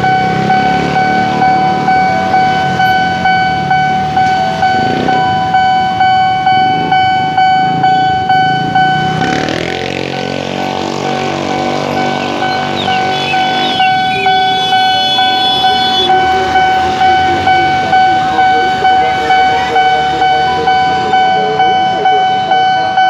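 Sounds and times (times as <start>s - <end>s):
level crossing bell ringing: 0.0s - 9.4s, 10.6s - 23.0s
road traffic: 0.0s - 23.0s
sustained pitched tone: 0.0s - 23.0s.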